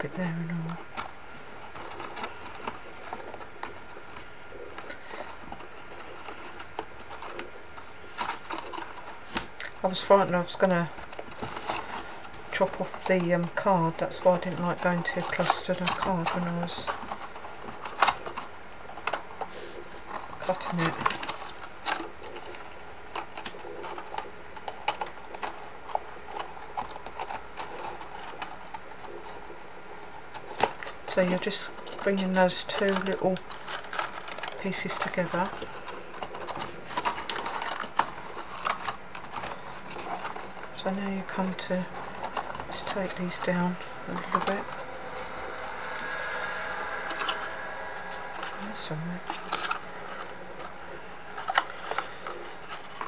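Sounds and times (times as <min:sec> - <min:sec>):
cardstock clicking and rustling: 0:00.0 - 0:53.0.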